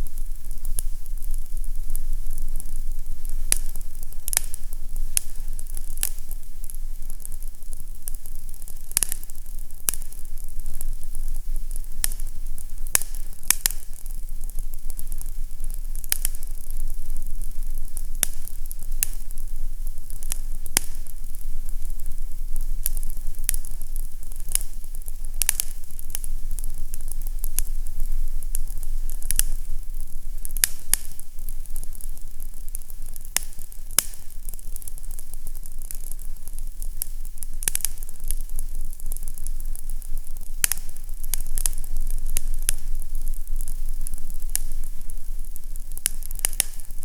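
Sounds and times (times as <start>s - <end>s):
fire crackling and popping: 0.0s - 47.0s
fire hissing: 0.0s - 47.0s
low rumble of fire: 0.0s - 47.0s.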